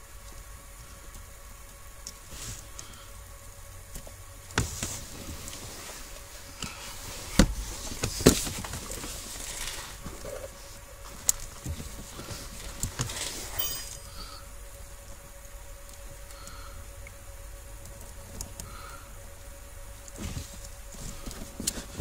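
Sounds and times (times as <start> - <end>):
wires rustling: 0.2 - 22.0.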